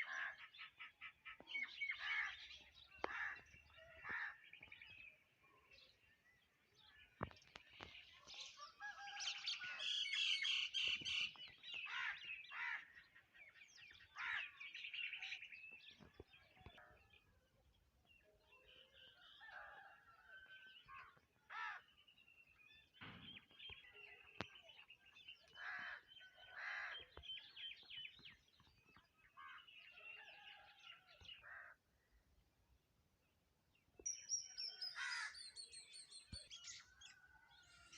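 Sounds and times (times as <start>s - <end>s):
wild birds chirping: 0.0s - 37.9s.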